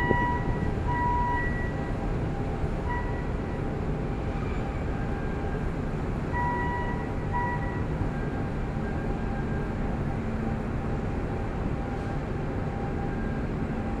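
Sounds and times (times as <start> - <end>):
low rumble of machinery and engines: 0.0 - 14.0.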